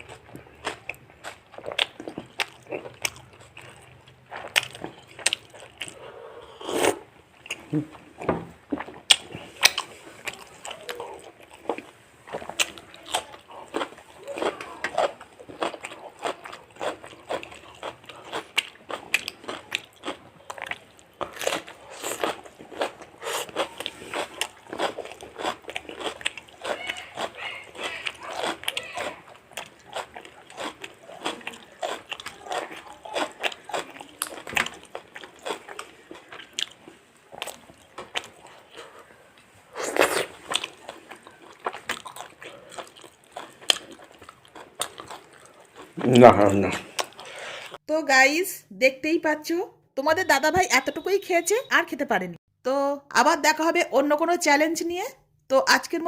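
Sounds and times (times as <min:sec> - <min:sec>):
crunchy bites and chewing: 0:00.0 - 0:47.8.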